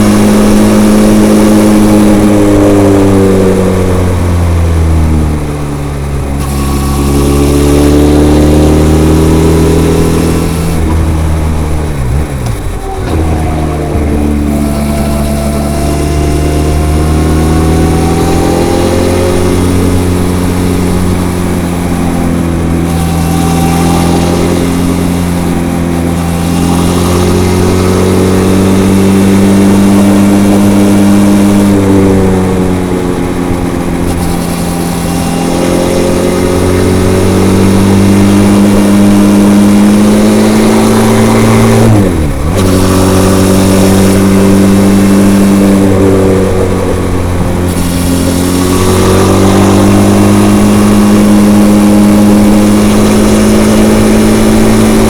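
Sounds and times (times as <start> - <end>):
motorcycle engine while riding: 0.0 - 55.0.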